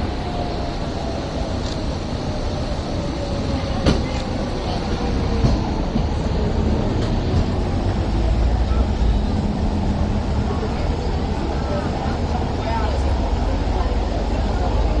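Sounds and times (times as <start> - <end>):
funicular rumbling on rails: 0.0 - 15.0.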